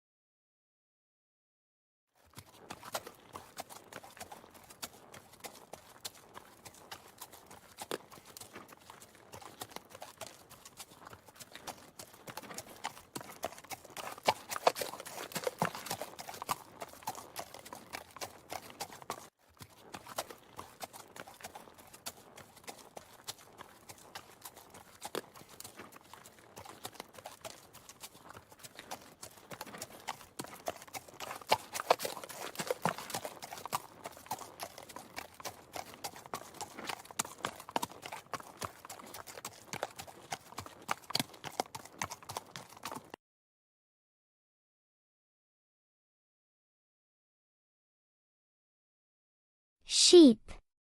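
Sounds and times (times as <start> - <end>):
horse hooves clip-clopping: 2.2 - 43.2.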